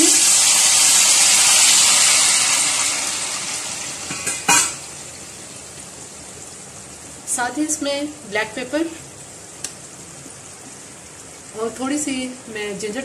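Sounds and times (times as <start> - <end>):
hot oil sizzling in a pot: 0.0 - 13.0.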